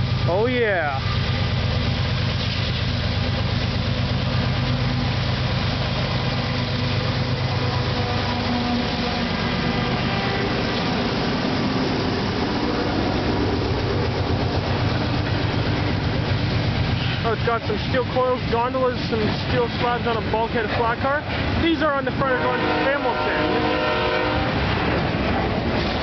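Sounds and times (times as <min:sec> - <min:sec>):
freight cars rolling past: 0:00.0 - 0:26.0
locomotive engines running: 0:00.0 - 0:26.0.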